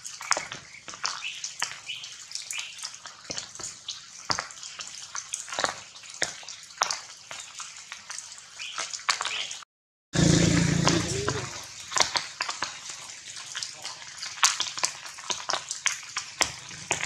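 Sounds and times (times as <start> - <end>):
rain dripping onto leaves: 0.0 - 9.6, 11.2 - 16.9.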